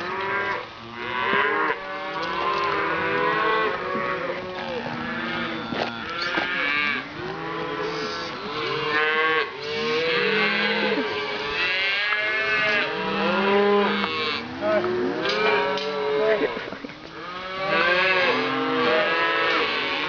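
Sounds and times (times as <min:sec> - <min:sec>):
cattle mooing and bawling: 0:00.0 - 0:20.0.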